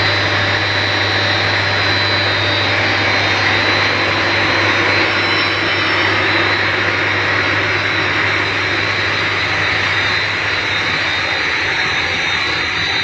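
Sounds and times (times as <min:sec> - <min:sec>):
extrusion machine running: 0:00.0 - 0:13.0.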